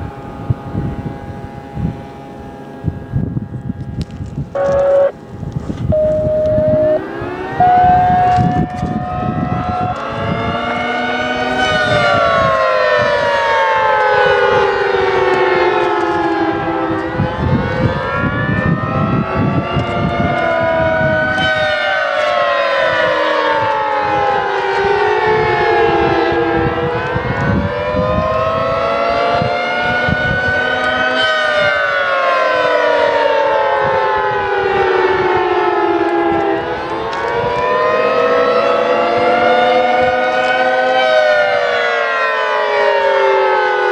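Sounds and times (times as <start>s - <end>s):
rotating tornado siren: 0.0s - 43.9s.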